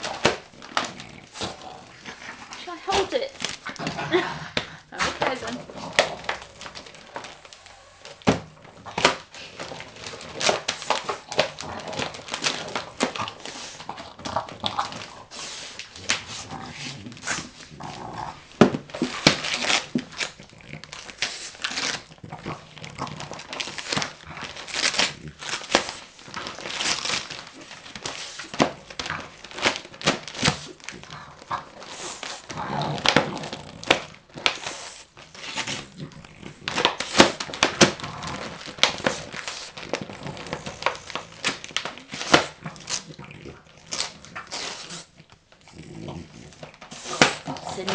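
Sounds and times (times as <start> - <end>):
dog sounds: 0.0 - 26.6, 27.2 - 47.9
wrapping paper crackling and ripping: 0.0 - 47.9.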